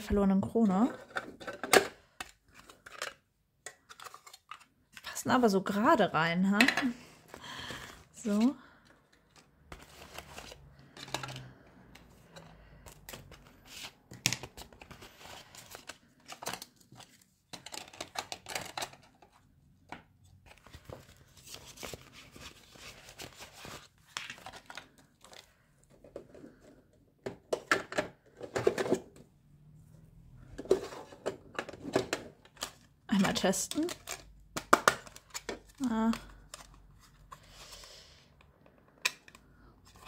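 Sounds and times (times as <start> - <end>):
cards and game pieces rustling: 0.5 - 5.2, 6.7 - 29.0, 30.4 - 40.0.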